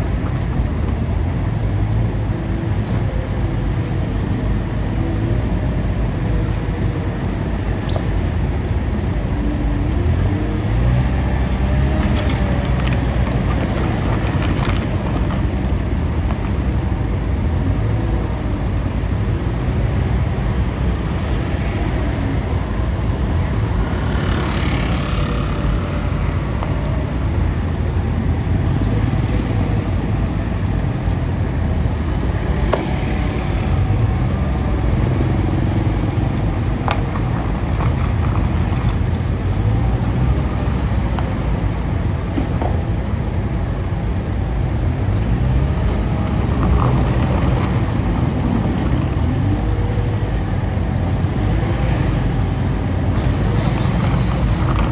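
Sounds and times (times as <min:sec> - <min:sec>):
vehicle engine rumbling: 0:00.0 - 0:54.9.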